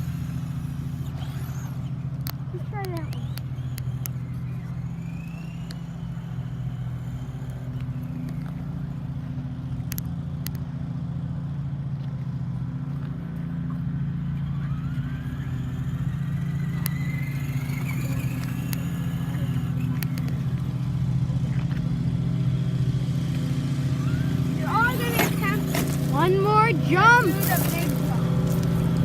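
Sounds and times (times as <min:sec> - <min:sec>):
faint rising whine: 0:00.0 - 0:29.0
simulated engine drone: 0:00.0 - 0:29.0.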